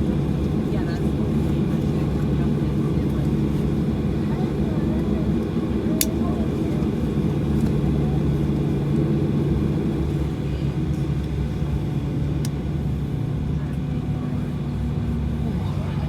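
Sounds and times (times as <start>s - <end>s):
airplane cabin rumble and hum: 0.0s - 16.0s.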